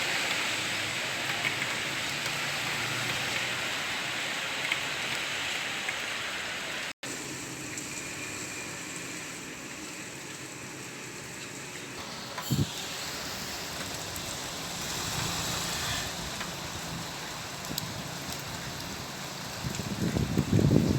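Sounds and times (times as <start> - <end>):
steady rain falling: 0.0 - 20.9
wet road traffic rumble: 0.0 - 20.9.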